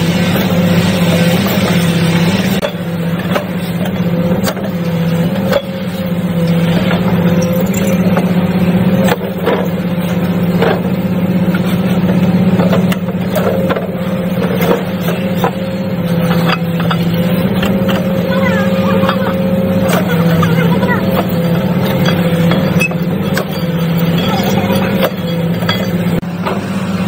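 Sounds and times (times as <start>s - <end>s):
sharp metallic knocks and clanks: 0.0s - 26.7s
low hydraulic drone: 0.0s - 27.0s.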